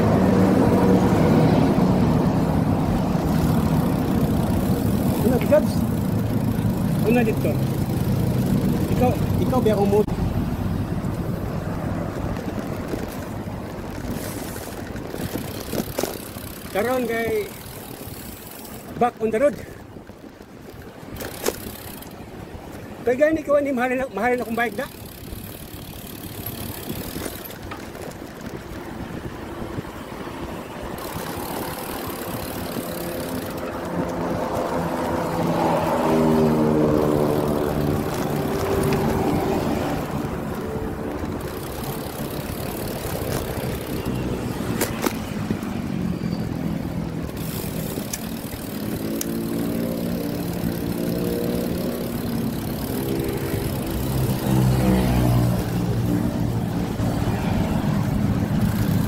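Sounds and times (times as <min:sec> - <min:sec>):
motor vehicles passing: 0:00.0 - 0:59.0.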